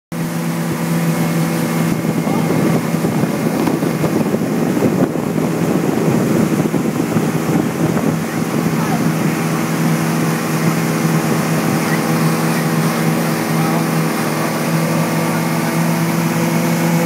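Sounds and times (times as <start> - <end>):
motorboat engine running: 0.1 - 17.0
wake rushing: 0.1 - 17.0
wind on microphone: 0.5 - 17.0.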